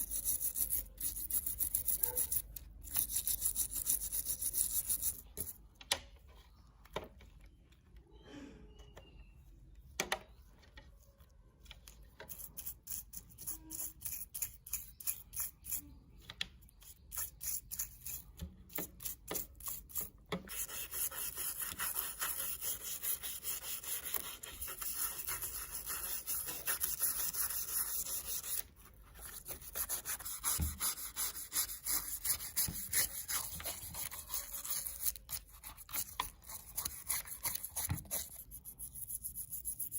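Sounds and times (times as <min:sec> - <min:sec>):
hand scraping a small hard object: 0:00.0 - 0:07.5, 0:10.0 - 0:39.9.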